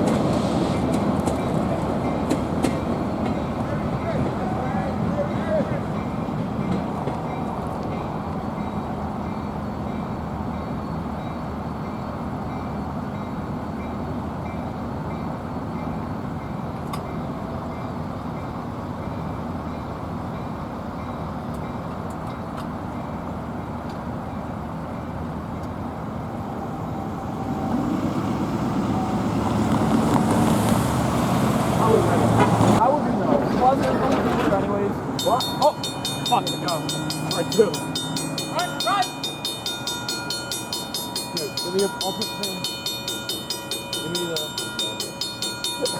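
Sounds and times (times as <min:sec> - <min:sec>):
train cars rumbling on track: 0:00.0 - 0:45.9.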